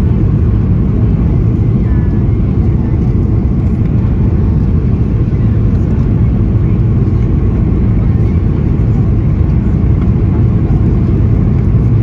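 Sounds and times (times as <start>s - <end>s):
airplane cabin low rumble: 0.0s - 12.0s.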